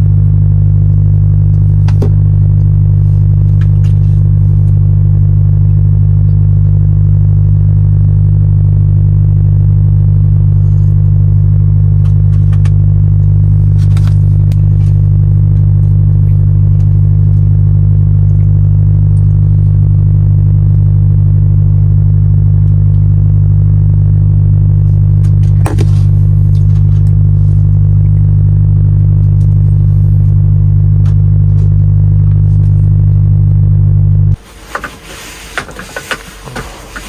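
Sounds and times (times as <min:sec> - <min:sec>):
diesel truck engine droning: 0:00.0 - 0:37.0.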